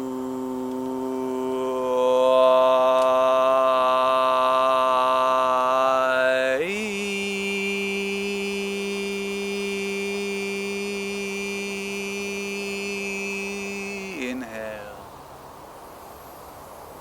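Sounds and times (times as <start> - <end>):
man chanting a held vowel: 0.0 - 15.0.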